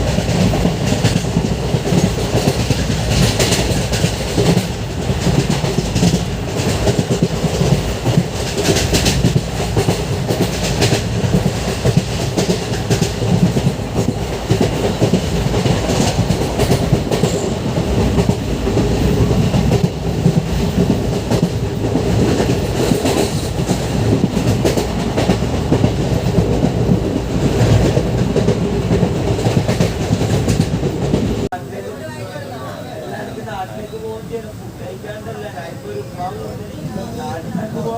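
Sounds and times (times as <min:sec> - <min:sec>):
train wheels clattering over rail joints: 0:00.0 - 0:31.5.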